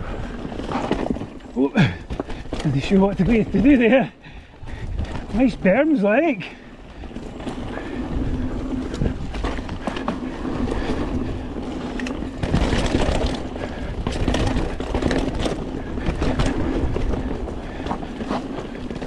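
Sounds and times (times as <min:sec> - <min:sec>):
bike rattling over bumps: 0:00.0 - 0:19.0
wind and tyre noise: 0:00.0 - 0:19.0.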